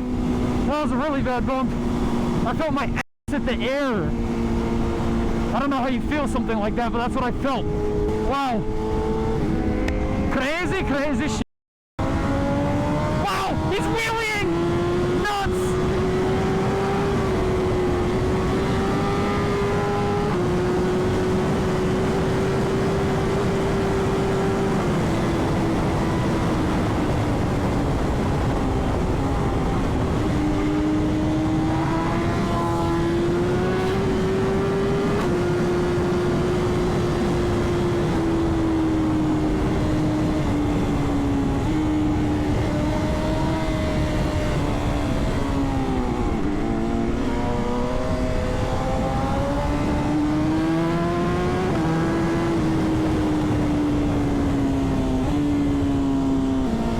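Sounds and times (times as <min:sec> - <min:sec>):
rush of wind noise: 0:00.0 - 0:11.4, 0:12.0 - 0:56.9.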